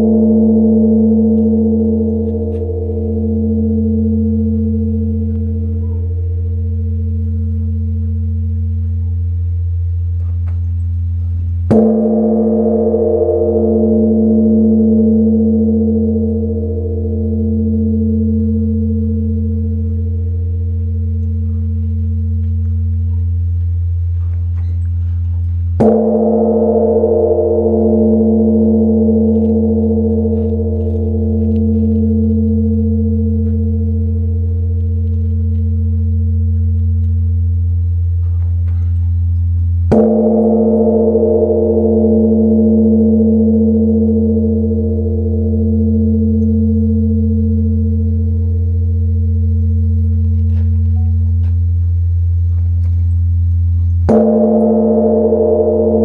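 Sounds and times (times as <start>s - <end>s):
large temple bell tolling: 0.0s - 11.0s, 11.6s - 52.0s, 54.0s - 56.0s.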